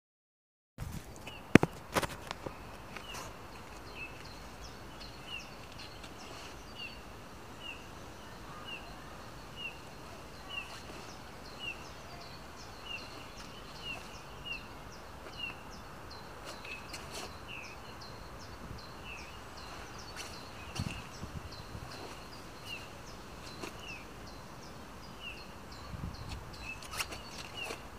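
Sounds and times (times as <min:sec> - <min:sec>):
faint outdoor hiss: 0:00.8 - 0:27.9.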